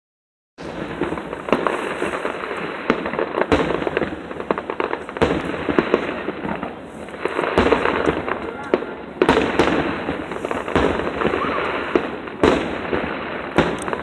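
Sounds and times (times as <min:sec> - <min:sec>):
fireworks bangs: 0:00.6 - 0:14.0
fireworks crackling and popping: 0:00.6 - 0:14.0.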